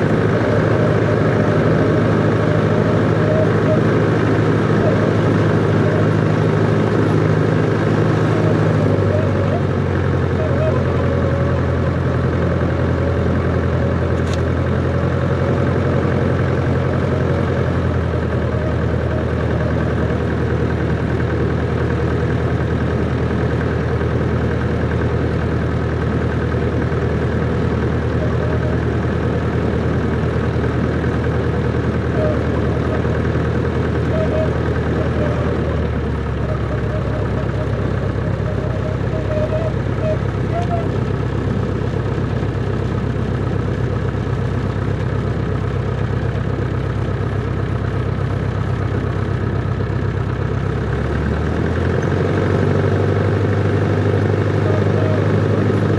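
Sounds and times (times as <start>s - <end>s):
aircraft piston engine running: 0.0s - 55.9s.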